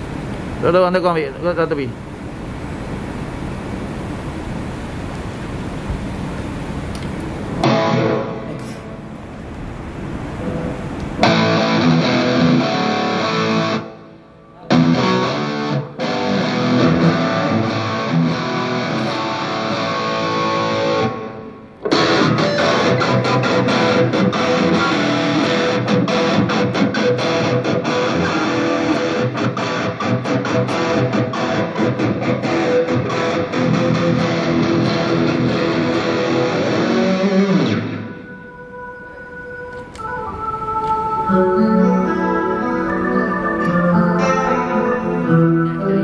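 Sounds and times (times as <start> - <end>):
electric guitar through amplifier: 0.0 - 46.0.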